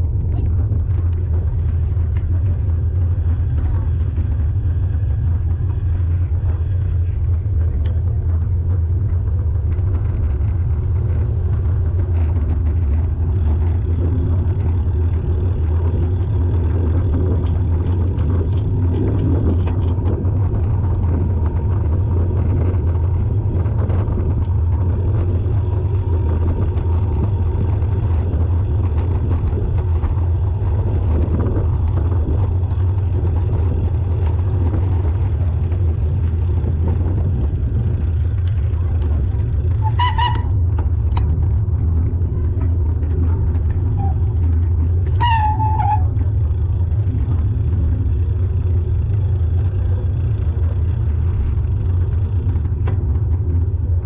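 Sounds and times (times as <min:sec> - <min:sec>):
vehicle engine low rumble: 0:00.0 - 0:54.0.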